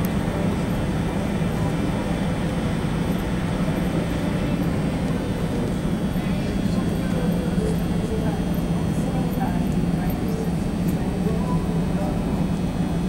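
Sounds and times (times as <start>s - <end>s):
indoor arena rumbling drone: 0.0s - 13.0s.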